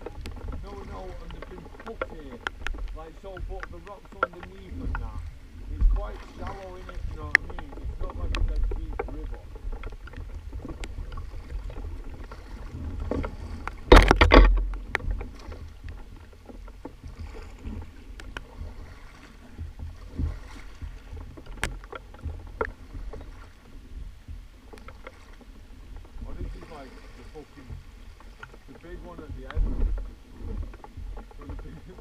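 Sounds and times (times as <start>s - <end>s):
paddle knocking on hull: 0.0s - 32.0s
paddles splashing: 0.0s - 32.0s
water rushing: 0.0s - 32.0s.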